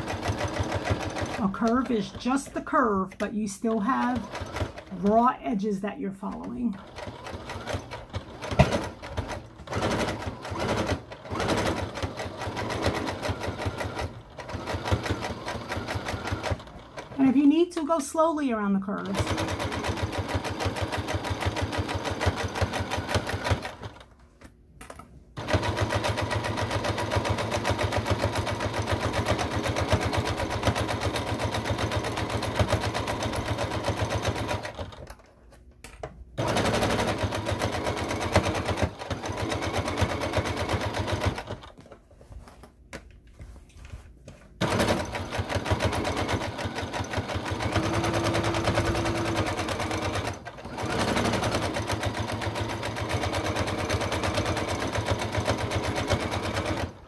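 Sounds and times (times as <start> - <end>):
sewing machine stitching: 0.0 - 3.0, 3.7 - 5.3, 6.2 - 18.0, 18.8 - 24.1, 25.4 - 35.3, 36.4 - 41.8, 44.6 - 57.0.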